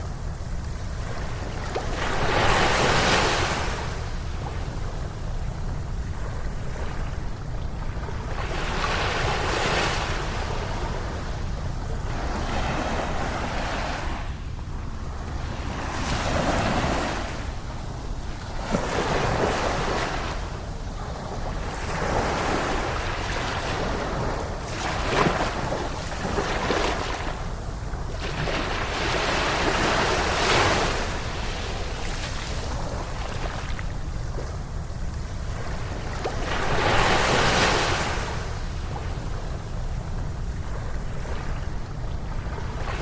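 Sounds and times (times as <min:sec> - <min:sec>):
ocean waves breaking on beach: 0:00.0 - 0:43.0.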